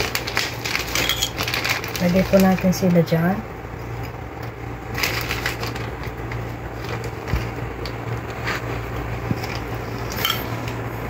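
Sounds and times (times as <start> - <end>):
plastic bag rustling: 0.0 - 3.9, 4.8 - 11.0
steady low hum: 0.0 - 11.0.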